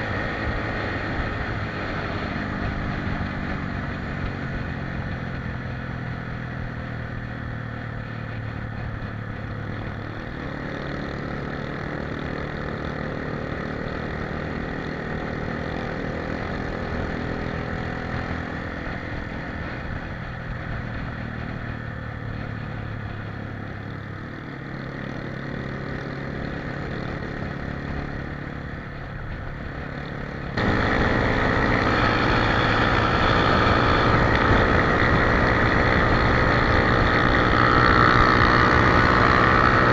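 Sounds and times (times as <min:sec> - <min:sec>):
engine running: 0:00.0 - 0:39.9
louder brighter engine noise: 0:00.0 - 0:39.9.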